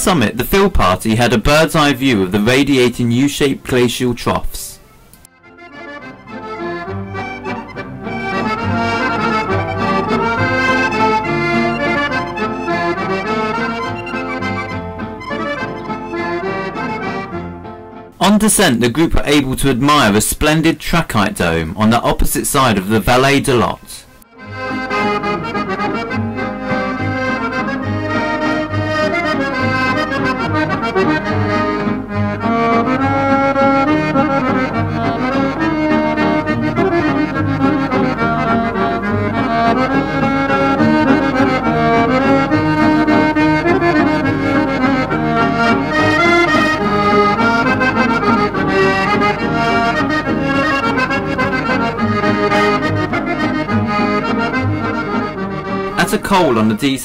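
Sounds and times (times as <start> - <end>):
accordion music: 0.0 - 57.0.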